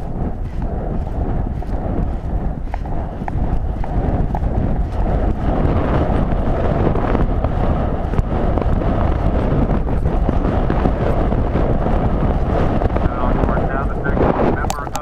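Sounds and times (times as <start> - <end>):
galloping hoofbeats: 0.0 - 15.0
wind buffeting microphone: 0.0 - 15.0.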